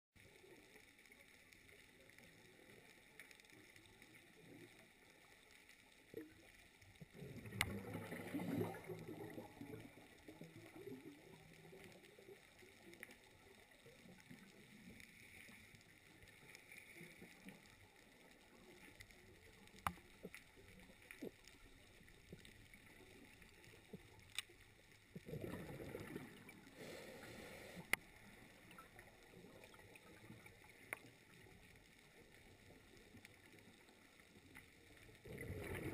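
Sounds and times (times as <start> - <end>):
low underwater hiss: 0.2 - 35.9
muffled rushes of water: 0.2 - 35.9.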